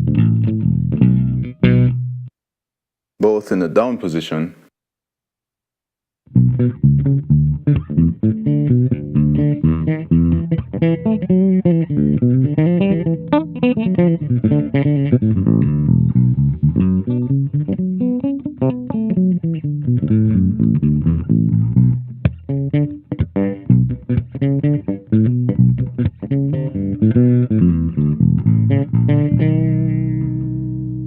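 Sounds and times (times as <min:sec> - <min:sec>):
electric bass plucked notes: 0:00.0 - 0:02.3, 0:06.3 - 0:31.0.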